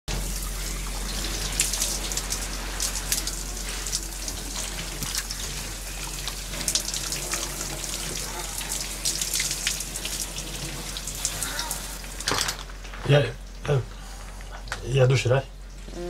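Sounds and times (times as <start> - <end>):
shower water hissing and spattering: 0.1 - 15.9.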